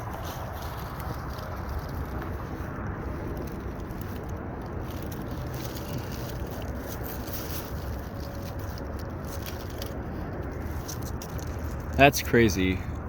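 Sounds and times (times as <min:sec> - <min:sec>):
dirt being scraped by hand: 0:00.0 - 0:12.7
steady low rumble: 0:00.0 - 0:13.0.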